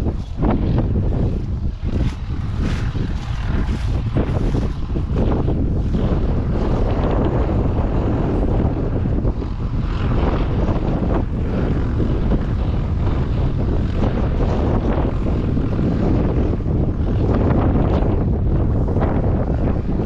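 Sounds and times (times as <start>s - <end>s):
combine harvester engine drone: 0.0s - 20.0s
wind buffeting microphone: 0.0s - 20.0s.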